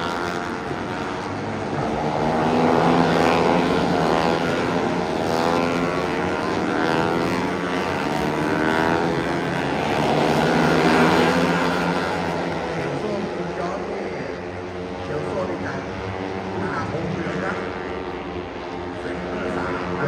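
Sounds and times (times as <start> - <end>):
racing motorcycles revving past: 0.0 - 20.0.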